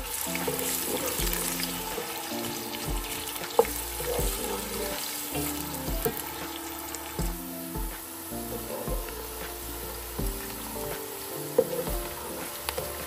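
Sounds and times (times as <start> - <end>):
background music: 0.0 - 13.0
onions sizzling in hot oil: 0.0 - 13.0.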